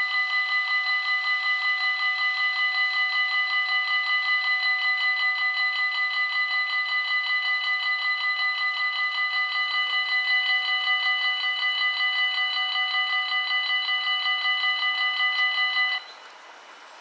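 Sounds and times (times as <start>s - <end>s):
level crossing warning bells: 0.0s - 16.1s.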